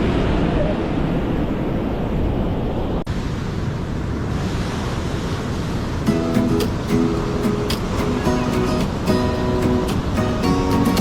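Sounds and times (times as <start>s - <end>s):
surf rushing: 0.0s - 11.0s.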